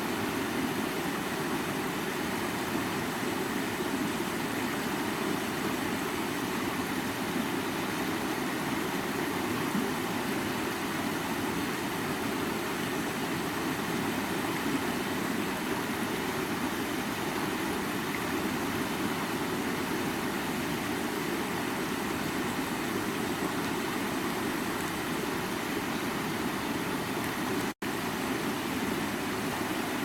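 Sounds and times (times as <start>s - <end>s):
stream water running: 0.0s - 30.0s.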